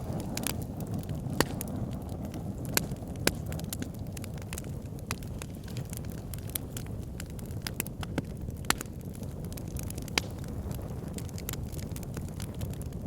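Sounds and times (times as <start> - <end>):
fire flames rumbling: 0.0 - 13.0
wood fire crackling and popping: 0.0 - 13.0.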